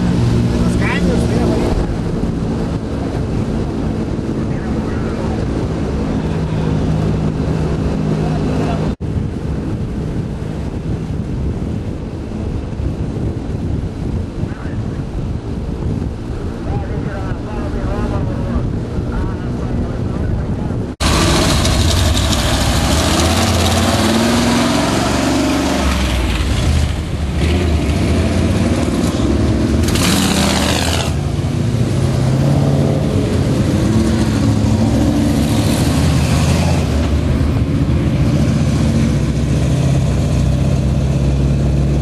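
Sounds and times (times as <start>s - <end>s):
truck engines driving past: 0.0s - 42.0s.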